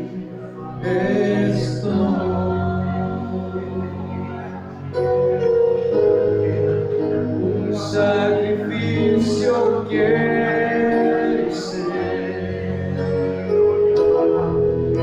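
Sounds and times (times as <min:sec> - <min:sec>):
voices singing worship song: 0:00.0 - 0:04.8, 0:07.4 - 0:14.7
instrumental backing: 0:00.0 - 0:15.0.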